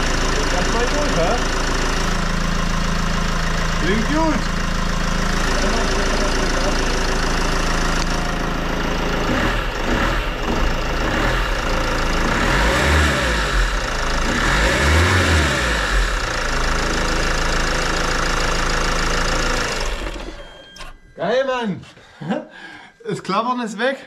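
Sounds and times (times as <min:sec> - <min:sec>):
diesel engine idling and revving: 0:00.0 - 0:20.8.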